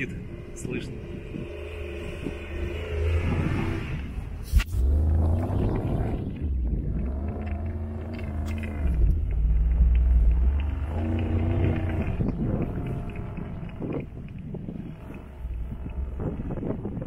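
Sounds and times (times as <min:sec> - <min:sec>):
engine revving: 0:00.0 - 0:17.0
heavy low rumble: 0:00.0 - 0:17.0.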